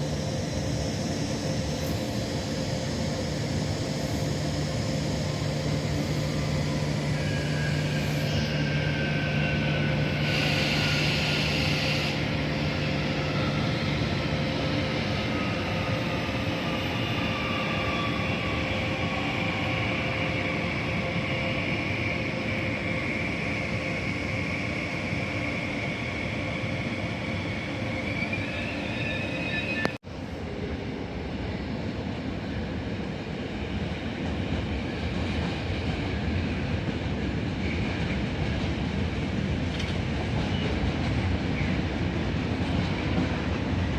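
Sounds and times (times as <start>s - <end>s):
train rumble with whining tones: 0.0s - 43.9s.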